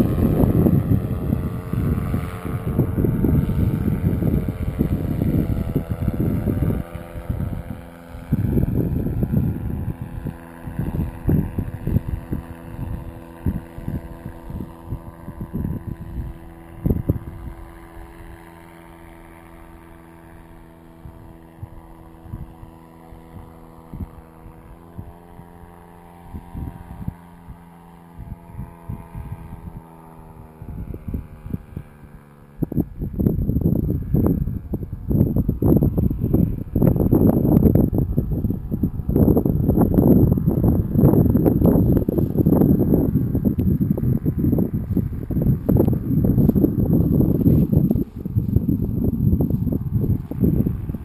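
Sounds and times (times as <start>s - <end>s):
distant paramotor engine droning: 0.0s - 51.0s
wind buffeting microphone: 0.0s - 51.0s.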